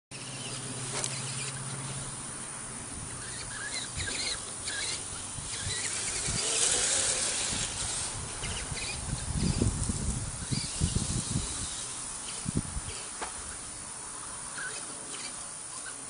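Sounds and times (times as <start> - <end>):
electric motor whine: 0.2 - 13.7.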